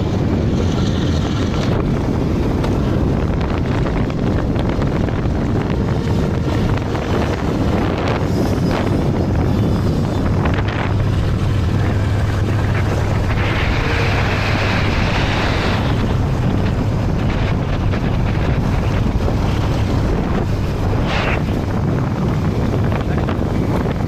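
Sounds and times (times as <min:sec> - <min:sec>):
low engine hum: 0:00.0 - 0:24.0
wind buffeting microphone: 0:00.0 - 0:24.0.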